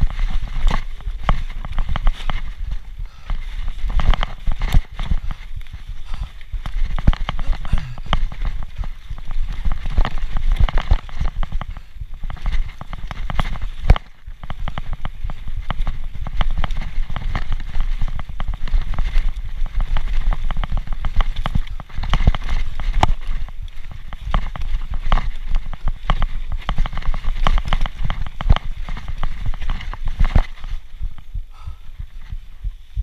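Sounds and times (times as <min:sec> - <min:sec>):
bike clattering and rattling: 0:00.0 - 0:33.0.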